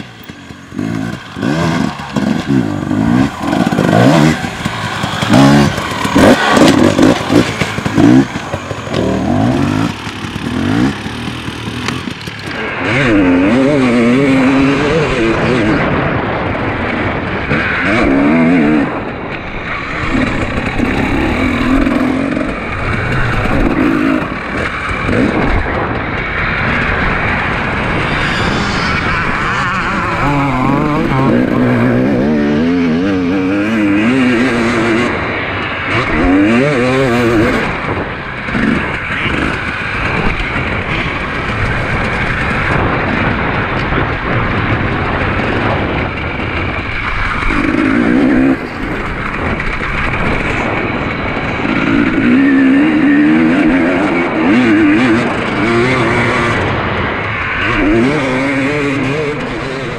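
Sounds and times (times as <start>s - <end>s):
motorcycle engine revving: 0.0s - 59.9s
wind and tyre noise: 0.0s - 59.9s.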